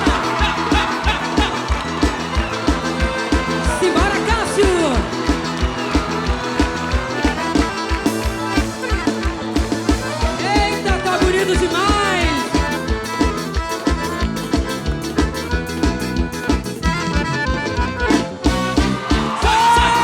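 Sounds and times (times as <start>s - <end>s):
accordion: 0.0s - 20.0s
drum kit: 0.0s - 20.0s
electric bass: 0.0s - 20.0s.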